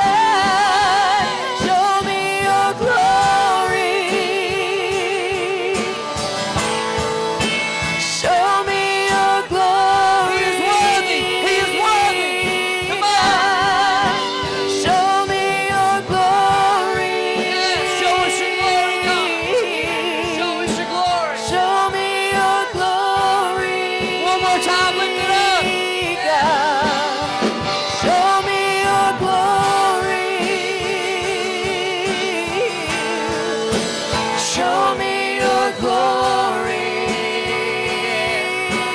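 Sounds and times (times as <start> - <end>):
instrumental accompaniment with beat: 0.0 - 38.9
voices singing gospel: 0.0 - 38.9.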